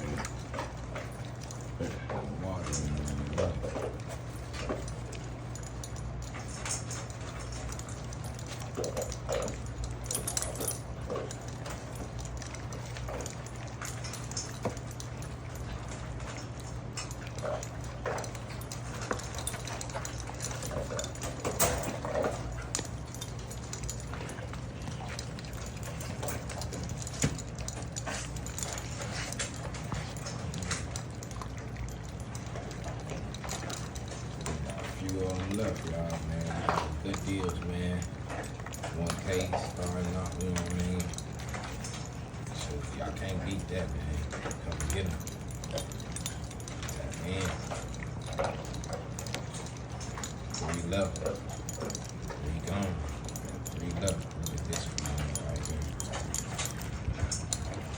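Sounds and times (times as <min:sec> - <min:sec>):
puppies eating dog food: 0:00.0 - 0:57.9
steady low hum: 0:00.0 - 0:57.9.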